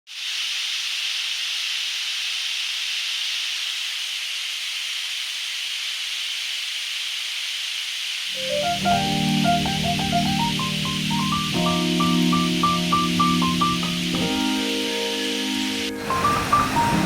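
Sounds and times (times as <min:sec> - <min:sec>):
waterfall hiss: 0:00.1 - 0:17.0.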